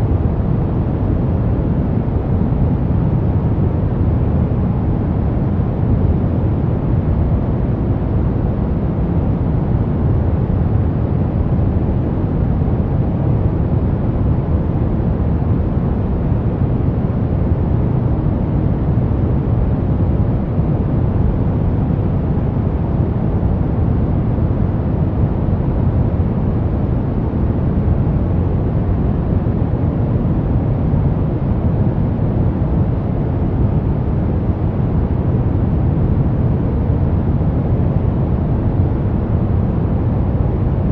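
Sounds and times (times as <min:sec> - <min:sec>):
brown noise: 0:00.0 - 0:40.9.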